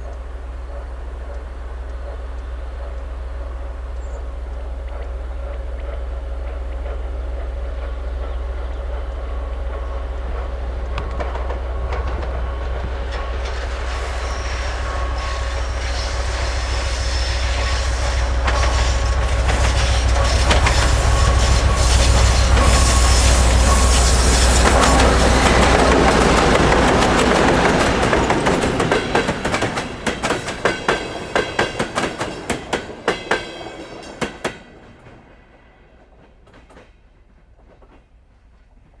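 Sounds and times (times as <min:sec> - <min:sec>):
diesel locomotive passing: 0:00.0 - 0:38.9
train wheels clicking over rail joints: 0:00.0 - 0:39.0.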